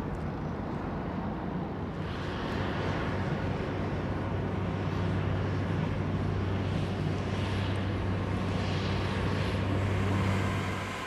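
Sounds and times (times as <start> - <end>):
heavy vehicle engine droning: 0.0 - 11.0.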